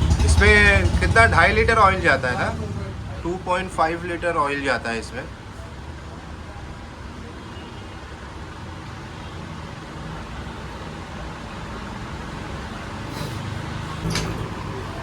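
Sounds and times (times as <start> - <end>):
engine rumbling: 0.0 - 7.1, 8.8 - 15.0.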